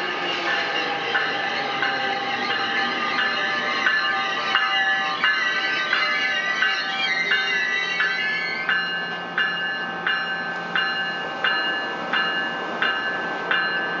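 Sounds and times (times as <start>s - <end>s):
train door chime dinging: 0.0s - 14.0s
train hum: 0.0s - 14.0s.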